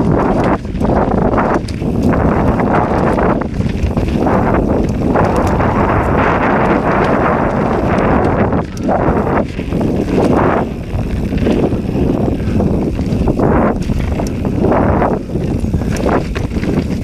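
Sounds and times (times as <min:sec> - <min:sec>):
bike rattling on rough trail: 0:00.0 - 0:17.0
bike tyre noise: 0:00.0 - 0:17.0
wind buffeting microphone: 0:00.0 - 0:17.0.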